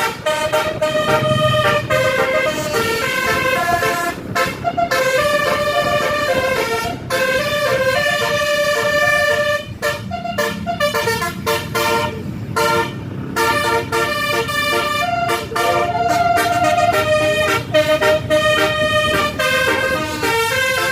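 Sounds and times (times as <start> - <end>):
bus horn playing a melody: 0.0 - 20.9.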